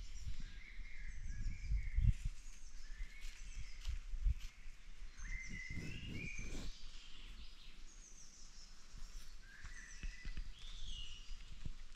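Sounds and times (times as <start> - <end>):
wild birds calling and singing: 0.0 - 11.9.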